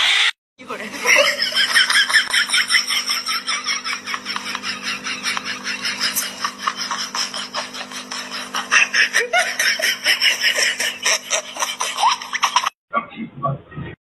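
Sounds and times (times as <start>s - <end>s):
people laughing: 0.8s - 13.6s.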